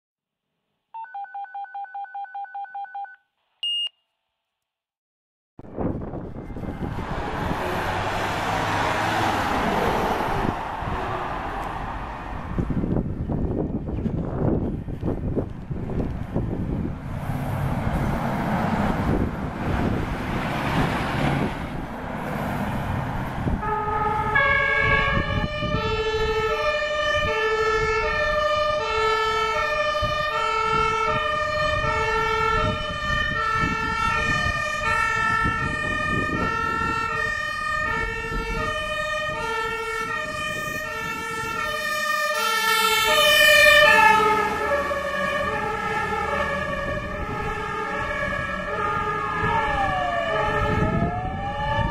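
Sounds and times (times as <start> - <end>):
fire engine two-tone sirens: 5.6 - 51.9
truck engine noise: 5.6 - 51.9.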